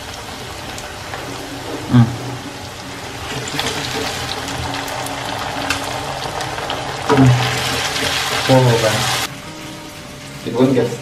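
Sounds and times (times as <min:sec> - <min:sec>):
meat and onions sizzling in a wok: 0:00.0 - 0:10.5.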